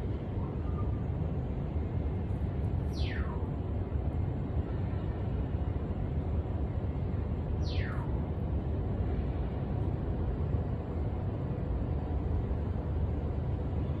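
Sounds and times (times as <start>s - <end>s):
city background rumble: 0.0s - 14.0s.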